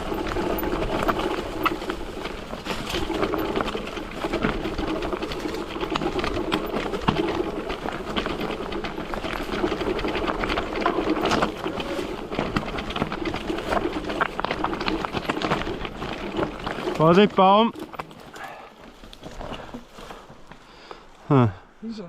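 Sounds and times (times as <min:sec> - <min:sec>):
bike chassis rattling and clicking: 0:00.0 - 0:20.6
stones under tyres: 0:00.0 - 0:21.6.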